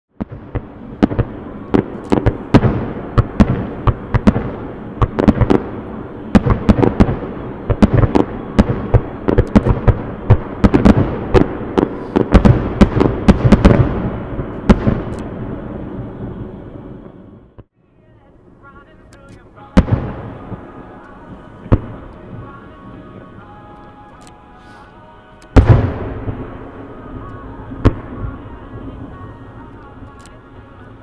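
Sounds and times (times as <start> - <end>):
rumbling firework crackle: 0.1 - 17.7, 19.3 - 23.9, 25.5 - 31.0.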